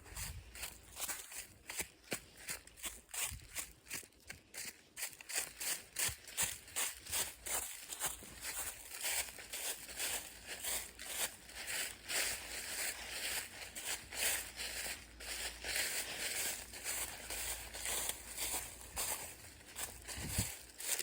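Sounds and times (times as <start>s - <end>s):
footsteps crunching on trail: 0.0s - 21.0s.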